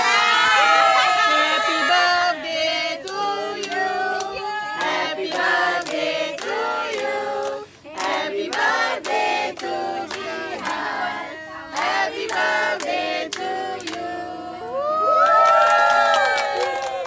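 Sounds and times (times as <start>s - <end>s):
women and children singing: 0.0s - 14.8s.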